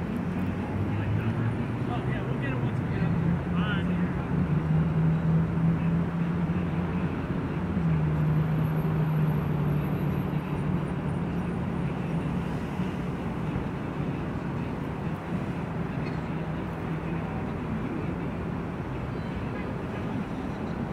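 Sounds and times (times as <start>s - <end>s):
engine droning hum: 0.0s - 20.9s
noisy background: 0.0s - 20.9s.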